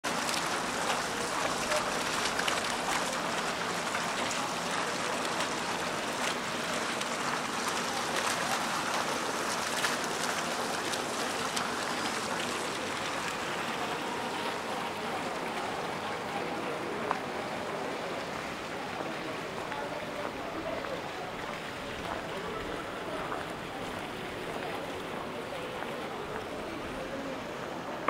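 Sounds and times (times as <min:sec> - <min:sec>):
fountain jet splashing into basin: 0:00.0 - 0:28.0.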